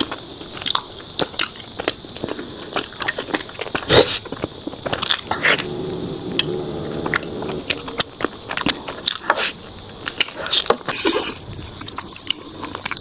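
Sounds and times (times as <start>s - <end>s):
mouth chewing sticky food: 0.0s - 13.0s.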